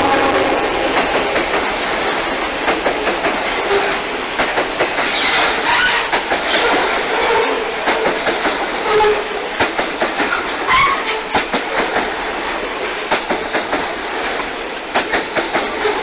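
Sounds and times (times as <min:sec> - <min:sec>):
train wheels rumbling on rails: 0:00.0 - 0:16.0
wheels clacking over rail joints: 0:00.0 - 0:16.0.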